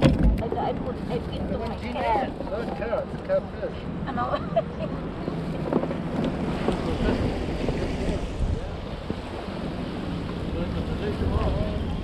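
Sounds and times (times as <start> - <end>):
ocean waves: 0.0 - 12.0
wind buffeting microphone: 0.0 - 12.0.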